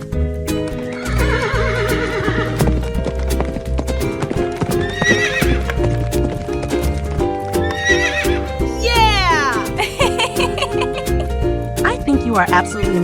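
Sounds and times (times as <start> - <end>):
cheerful music with clip-clop beat: 0.0 - 13.0.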